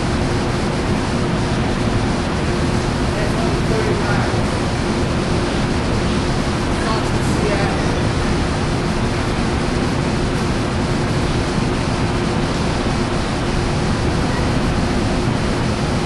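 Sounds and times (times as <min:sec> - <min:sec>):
diesel locomotive idling: 0:00.0 - 0:16.0.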